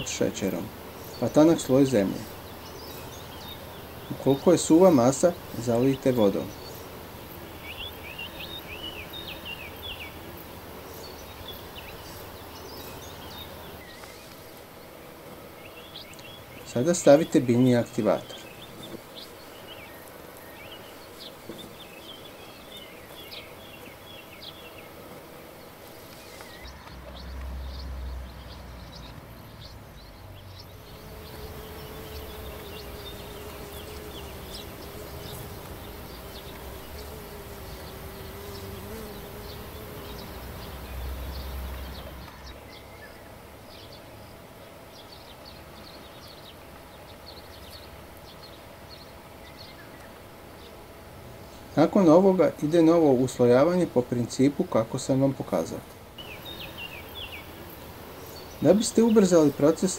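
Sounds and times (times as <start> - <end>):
flying insect buzzing: 0.0 - 59.9.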